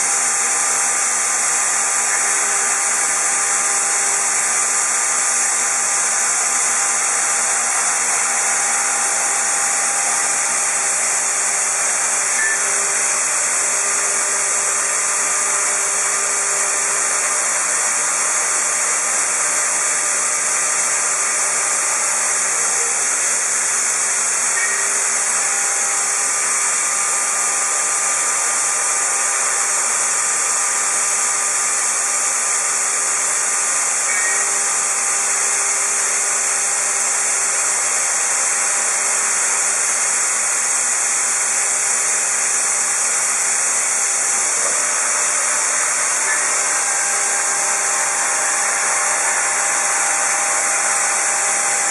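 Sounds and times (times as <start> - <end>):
cnc router cutting hiss: 0.0 - 51.9.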